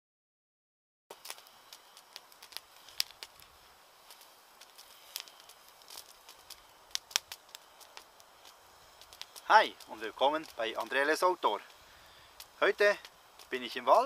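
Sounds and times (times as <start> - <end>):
campfire crackling: 1.1 - 14.0.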